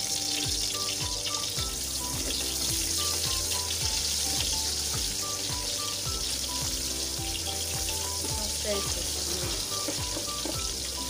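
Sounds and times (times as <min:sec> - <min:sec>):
music with steady beat: 0:00.0 - 0:11.0
onions sizzling in oil: 0:00.0 - 0:11.0.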